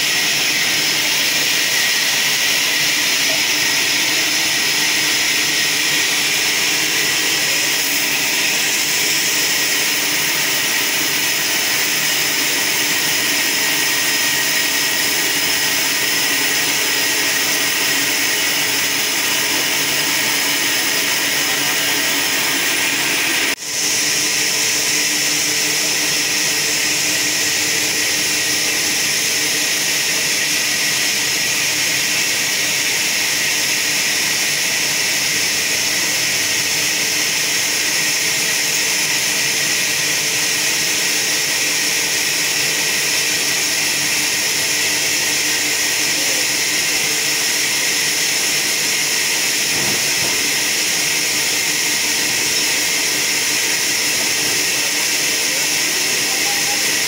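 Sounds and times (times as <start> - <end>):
band saw hissing and whining: 0.0 - 57.0.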